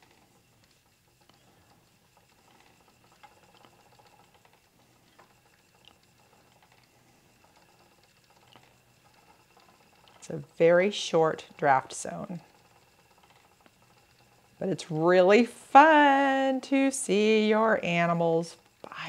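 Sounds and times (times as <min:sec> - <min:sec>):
spinning wheel soft ticks: 0:00.0 - 0:19.0.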